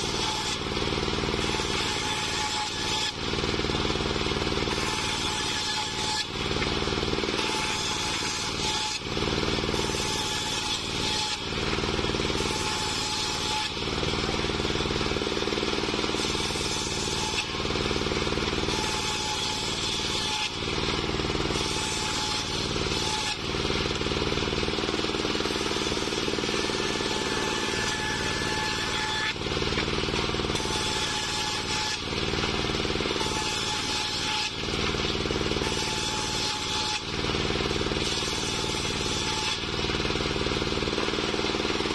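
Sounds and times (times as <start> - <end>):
circular saw cutting wood: 0.0 - 41.9.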